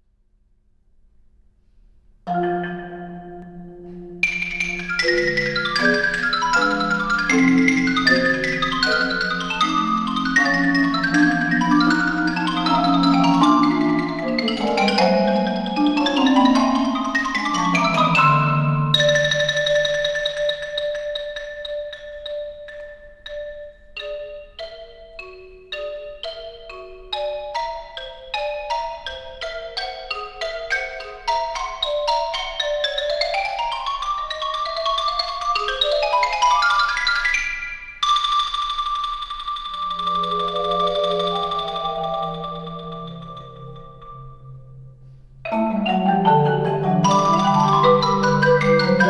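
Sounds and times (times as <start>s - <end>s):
marimba chords: 2.3s - 49.0s
xylophone fast runs: 4.2s - 22.8s, 26.4s - 44.3s, 45.5s - 49.0s.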